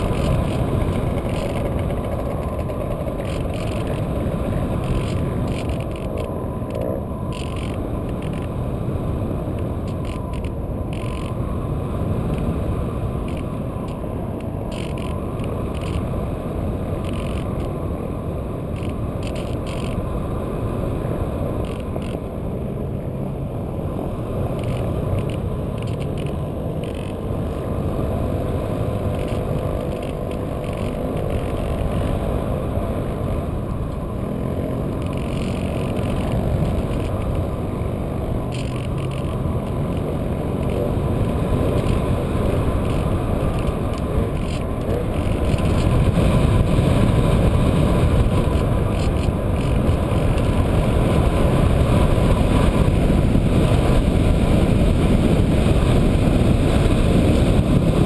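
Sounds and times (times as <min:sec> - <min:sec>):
electric motor and propeller hum: 0:00.0 - 0:58.0
wind rushing over camera: 0:00.0 - 0:58.0.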